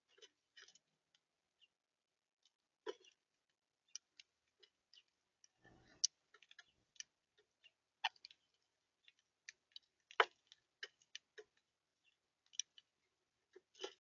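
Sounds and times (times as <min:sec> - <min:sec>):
birds pecking seed: 0:02.4 - 0:14.0.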